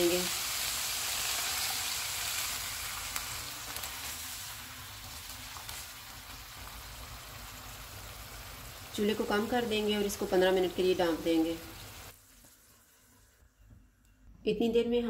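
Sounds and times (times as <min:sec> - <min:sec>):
meat sizzling in a wok: 0:00.0 - 0:13.3.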